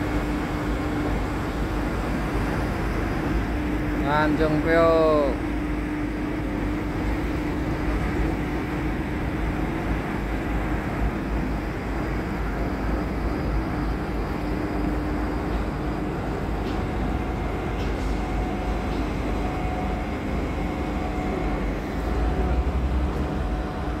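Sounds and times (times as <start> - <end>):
diesel engines rumbling: 0.0 - 24.0.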